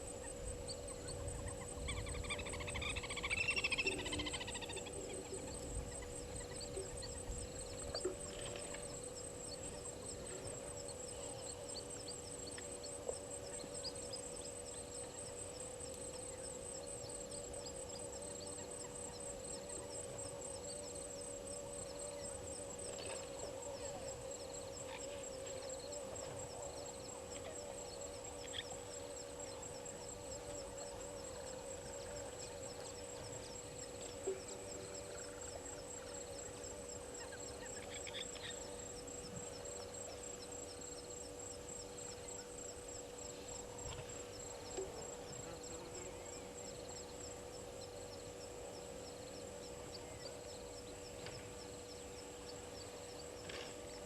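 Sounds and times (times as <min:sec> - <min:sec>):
fast-pulsing insect trills: 0:00.0 - 0:54.0
wavering frog chorus: 0:00.0 - 0:54.0.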